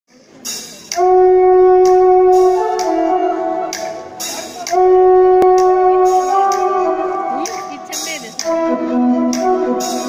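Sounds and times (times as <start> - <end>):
electronic keyboard reedy melody: 0.9 - 10.0.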